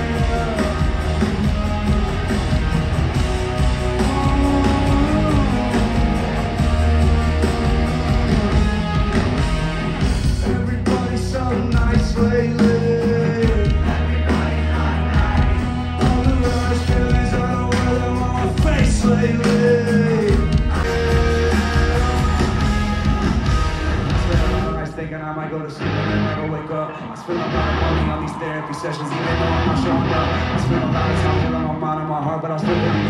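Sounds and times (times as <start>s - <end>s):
person singing: 0.0s - 9.0s, 10.3s - 23.1s, 24.1s - 33.0s
heavy bass: 0.0s - 25.0s, 29.2s - 31.8s, 32.7s - 33.0s
drums: 0.0s - 31.9s, 32.6s - 33.0s
electric guitar: 0.0s - 33.0s.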